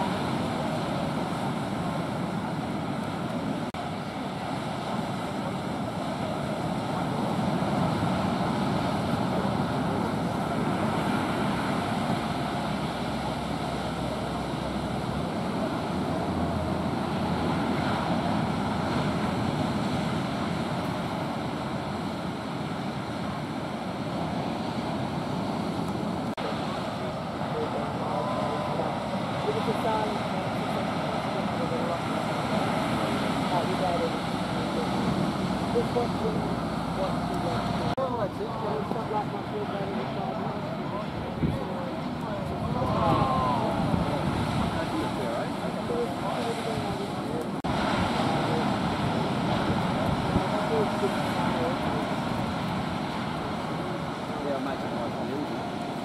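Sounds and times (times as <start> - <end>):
ocean surf breaking: 0.0 - 56.0
wind buffeting microphone: 0.0 - 56.0.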